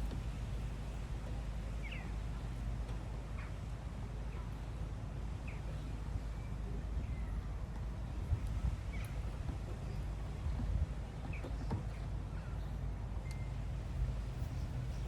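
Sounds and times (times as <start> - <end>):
steady low rumble: 0.0 - 11.2, 12.0 - 15.0.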